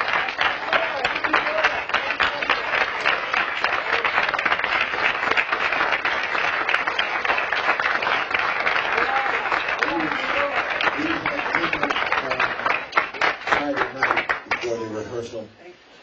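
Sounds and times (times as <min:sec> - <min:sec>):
crowd clapping: 0:00.0 - 0:15.0.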